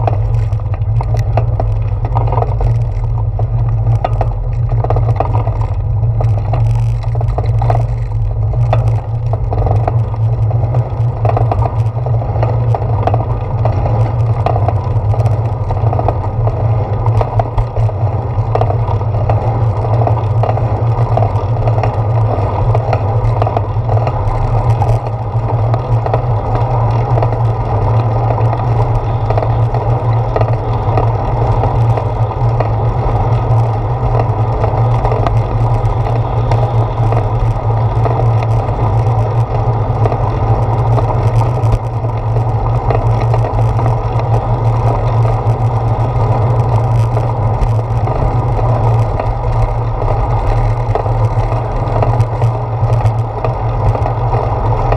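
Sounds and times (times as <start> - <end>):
bicycle tyres rolling on pavement: 0.0 - 54.9
low hum: 0.0 - 54.9
wind noise: 0.0 - 54.9.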